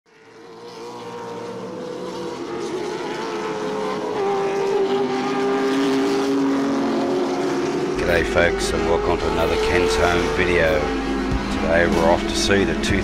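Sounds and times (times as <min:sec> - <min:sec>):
racing car engines: 0:00.1 - 0:13.0.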